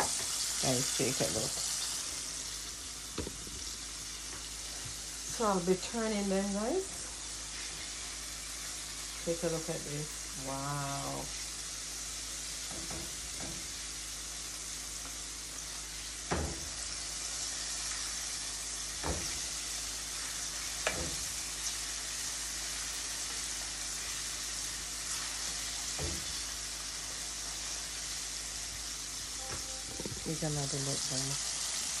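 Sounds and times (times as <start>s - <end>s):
food deep-frying in oil: 0.0s - 32.0s.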